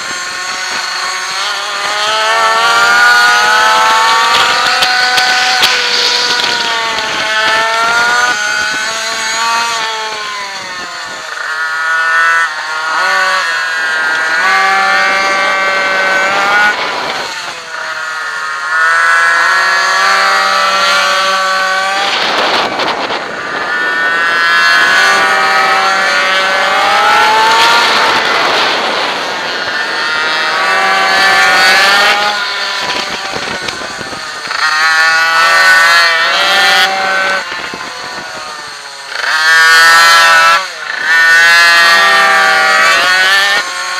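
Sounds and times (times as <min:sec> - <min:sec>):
minibike engine revving: 0:00.0 - 0:43.9.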